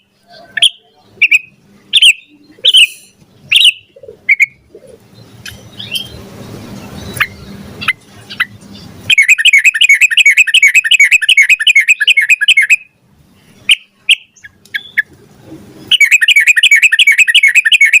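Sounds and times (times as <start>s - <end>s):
bird singing: 0.0s - 15.1s, 15.8s - 18.0s.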